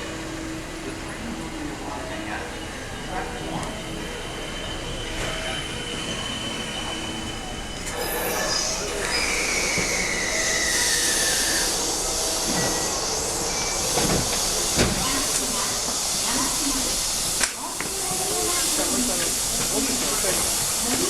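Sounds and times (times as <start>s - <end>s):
train brakes whining: 0.0s - 21.0s
train wheels rushing on rail: 0.0s - 21.0s.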